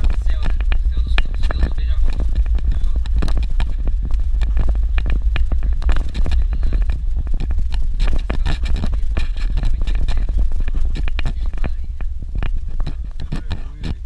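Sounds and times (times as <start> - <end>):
rattling and knocking: 0.0 - 14.0
vehicle low rumble: 0.0 - 14.0.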